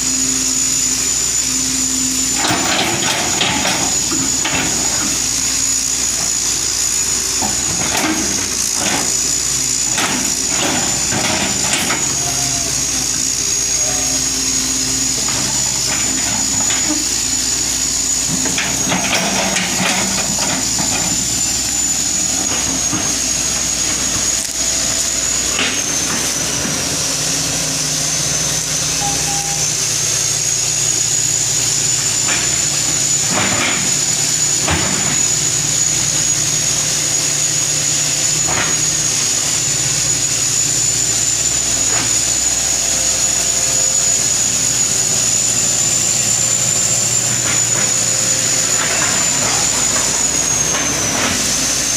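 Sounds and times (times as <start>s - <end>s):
excavator diesel engine: 0.0s - 51.9s
high whine: 0.0s - 51.9s.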